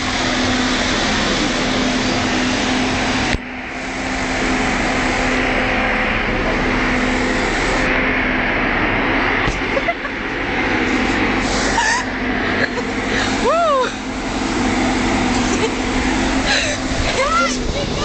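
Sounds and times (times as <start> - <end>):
street sweeper engine whirring: 0.0 - 18.0.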